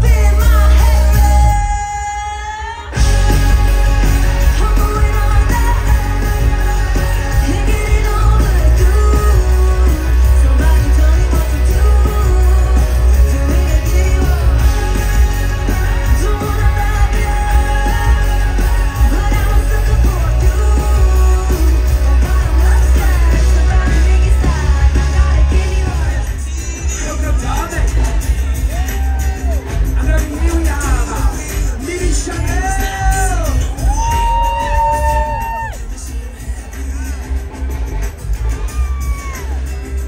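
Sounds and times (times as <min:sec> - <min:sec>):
amplified pop music with singer: 0:00.0 - 0:40.0.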